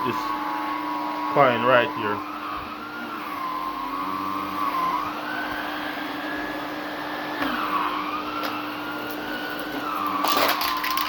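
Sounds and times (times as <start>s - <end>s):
vacuum cleaner humming and whining: 0.0s - 11.0s.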